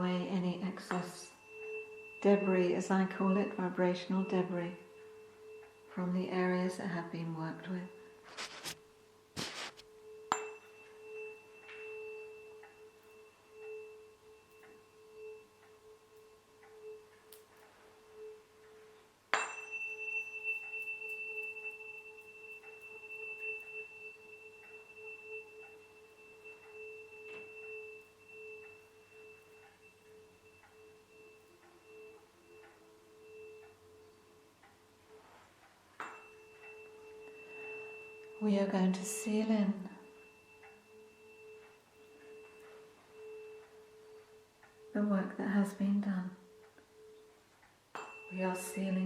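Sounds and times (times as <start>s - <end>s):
tuning fork being struck: 0.0s - 49.0s
tuning fork ringing: 0.0s - 49.0s.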